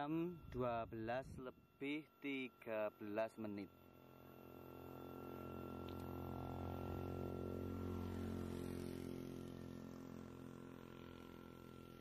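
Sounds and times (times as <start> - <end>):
low engine-like hum: 0.0 - 12.0.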